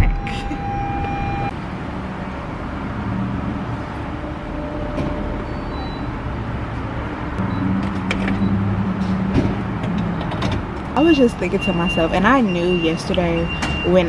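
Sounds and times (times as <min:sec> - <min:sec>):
vehicle and machinery rumble: 0:00.0 - 0:14.0.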